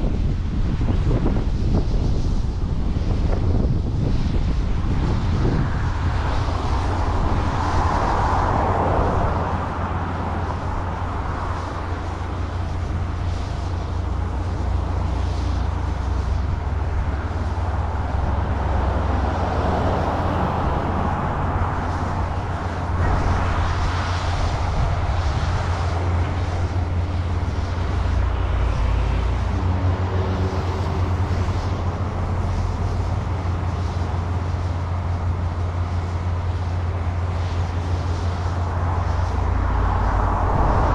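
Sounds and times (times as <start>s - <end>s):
wind rumbling on microphone: 0.0s - 40.9s
harvest machinery running: 2.7s - 40.9s.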